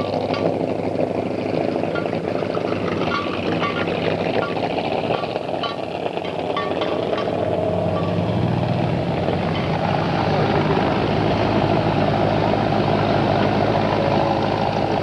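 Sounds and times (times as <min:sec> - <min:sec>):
light irregular ticking: 0:00.0 - 0:12.5
car engine running: 0:00.0 - 0:15.0.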